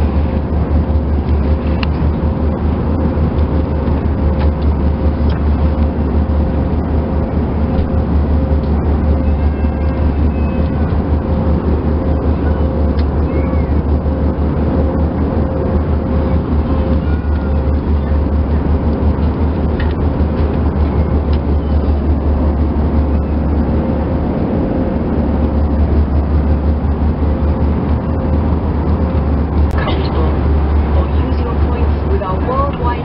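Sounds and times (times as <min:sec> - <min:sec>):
engine rumble and rushing air: 0:00.0 - 0:33.0
faint steady hum: 0:00.0 - 0:33.0.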